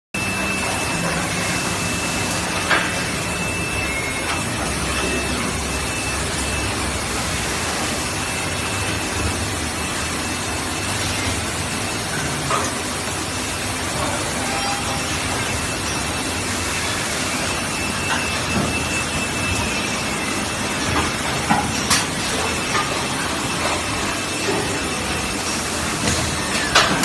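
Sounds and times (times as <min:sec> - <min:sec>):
machinery hiss and hum: 0:00.2 - 0:27.0.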